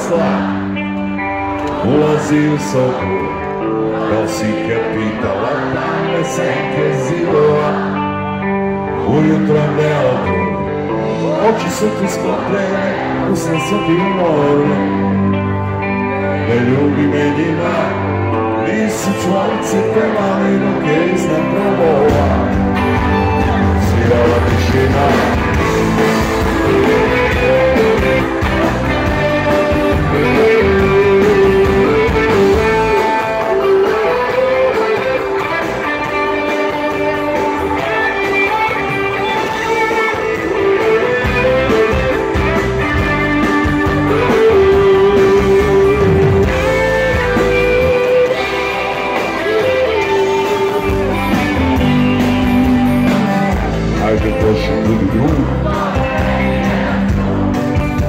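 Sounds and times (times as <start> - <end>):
electric guitar melody: 0.0 - 58.0
rock band playing: 0.0 - 58.0.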